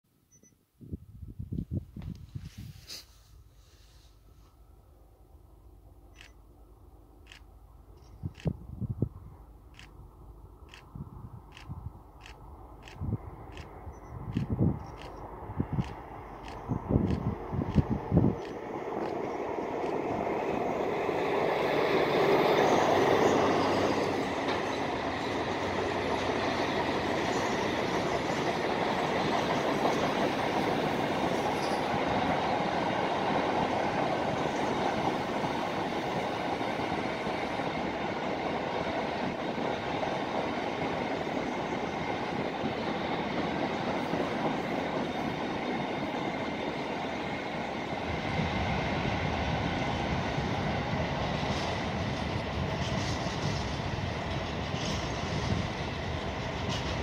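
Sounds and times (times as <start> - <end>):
diesel locomotive passing: 2.6 - 57.0
train wheels rolling on rails: 7.0 - 57.0.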